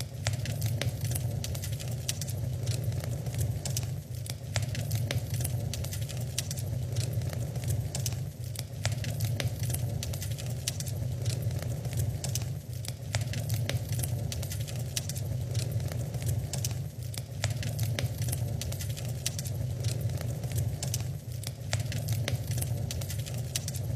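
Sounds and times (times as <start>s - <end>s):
low rumble of fire: 0.0s - 23.9s
wood fire crackling and popping: 0.0s - 23.9s.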